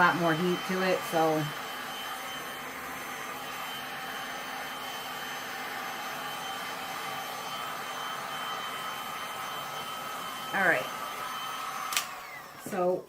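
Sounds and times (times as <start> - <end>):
heat gun blowing: 0.0 - 13.0.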